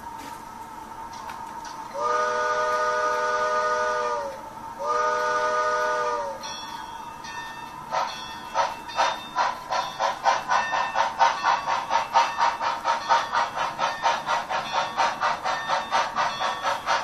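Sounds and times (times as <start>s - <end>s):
model steam locomotive chuffing: 1.2s - 17.0s.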